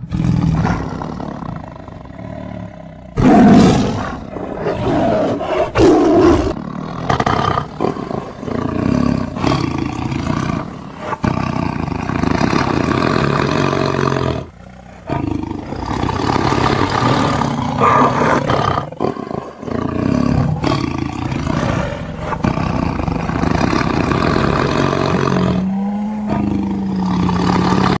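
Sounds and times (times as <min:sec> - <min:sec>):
big cat roaring and growling: 0:00.0 - 0:28.0.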